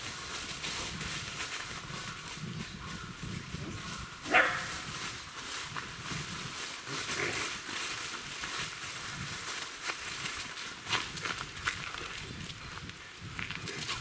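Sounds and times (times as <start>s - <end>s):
dry leaves rustling underfoot: 0.0s - 14.0s.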